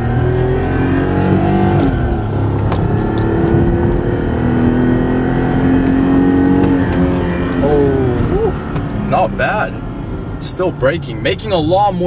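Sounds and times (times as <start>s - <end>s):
car engine revving hard: 0.0s - 10.8s.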